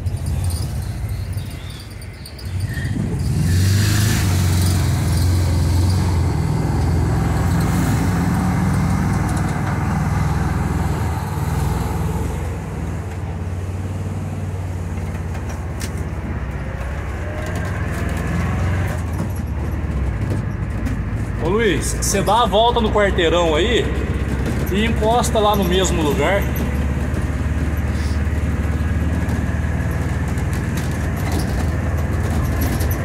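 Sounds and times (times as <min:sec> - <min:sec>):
road noise: 0:00.0 - 0:33.0
van engine running: 0:00.0 - 0:33.0.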